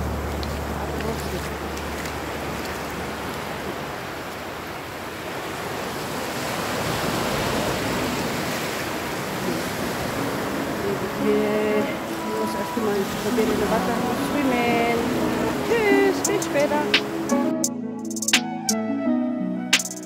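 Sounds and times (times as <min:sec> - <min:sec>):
waves washing on beach: 0:00.0 - 0:17.5.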